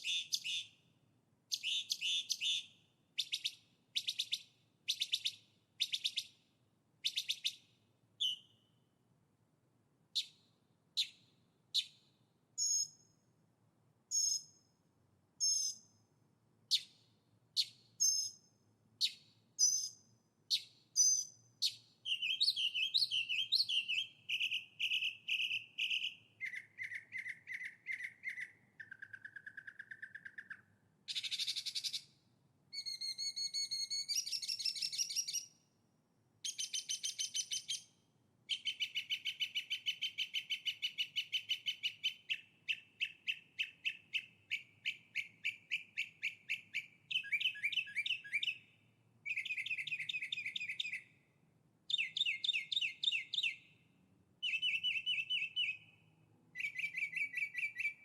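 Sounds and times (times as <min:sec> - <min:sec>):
songbird singing: 0:00.0 - 0:08.9, 0:10.1 - 0:13.3, 0:14.1 - 0:14.8, 0:15.4 - 0:16.1, 0:16.7 - 0:35.7, 0:36.4 - 0:58.0.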